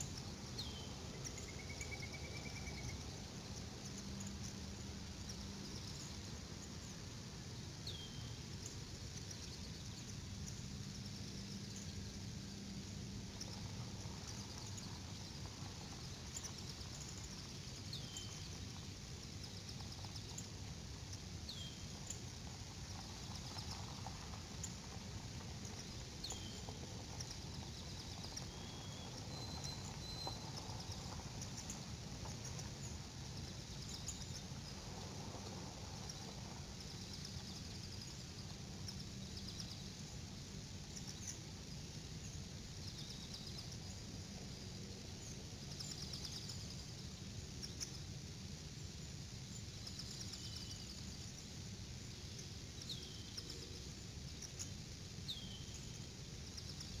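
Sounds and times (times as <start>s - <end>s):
faint high bird chirps: 0.0s - 7.0s, 7.7s - 48.2s, 49.5s - 57.0s
low background noise: 0.0s - 57.0s.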